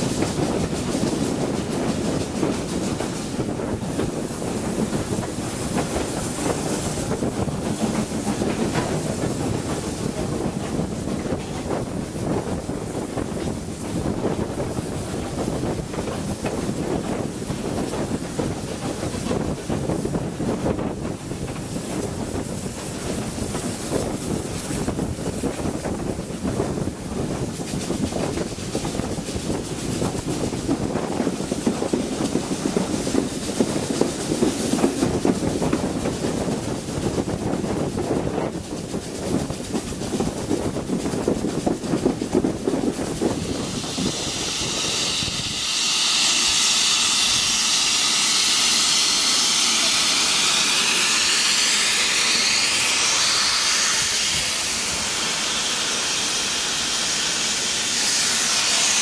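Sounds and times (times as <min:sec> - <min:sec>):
train wheels rumbling on rails: 0:00.0 - 0:59.0
wind buffeting microphone: 0:00.0 - 0:59.0.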